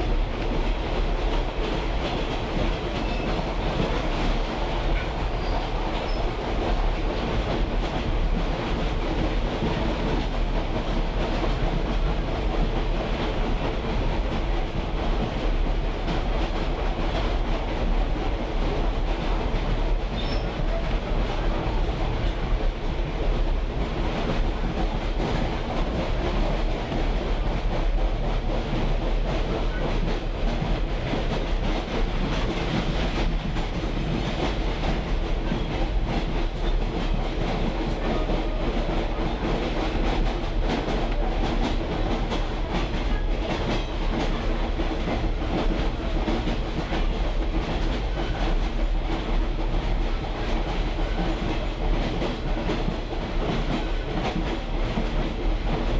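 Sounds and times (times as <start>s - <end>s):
rail car rumble and rattle: 0.0s - 55.9s.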